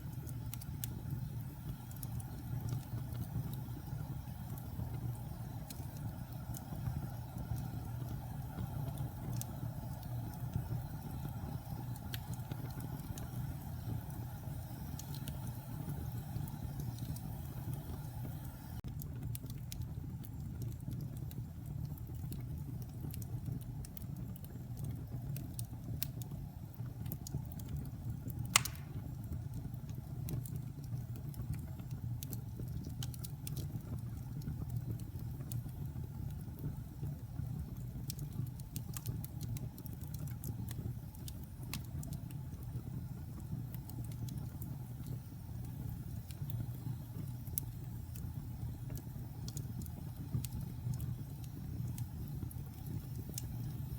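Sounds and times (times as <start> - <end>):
crackles and pops of burning wood: 0.0 - 53.9
fire rumbling: 0.0 - 53.9.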